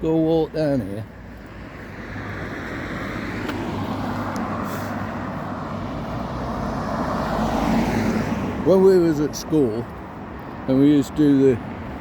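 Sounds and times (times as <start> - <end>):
passing vehicle engine and tyres: 0.0 - 12.0
road traffic noise: 0.0 - 12.0.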